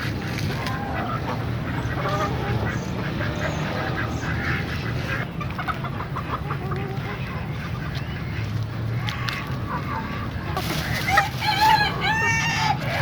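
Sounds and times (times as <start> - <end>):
poultry calling: 0.5 - 13.0.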